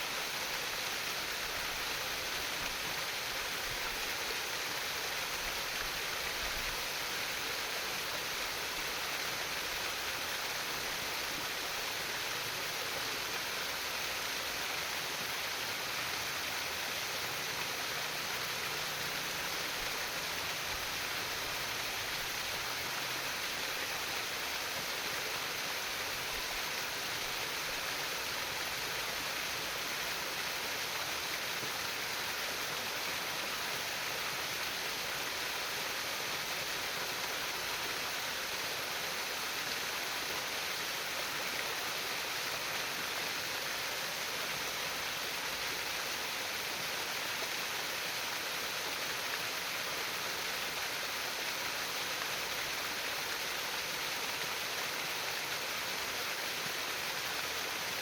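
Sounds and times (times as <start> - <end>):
water babbling in a stream: 0.0 - 58.0.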